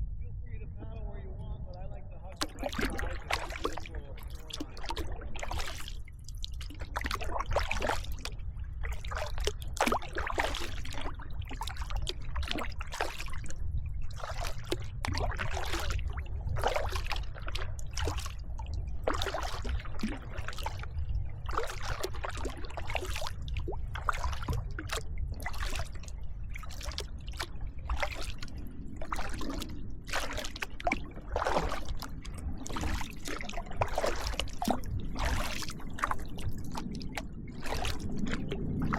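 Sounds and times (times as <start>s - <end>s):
low rumble: 0.0s - 38.9s
paddle splashing water: 2.2s - 38.9s.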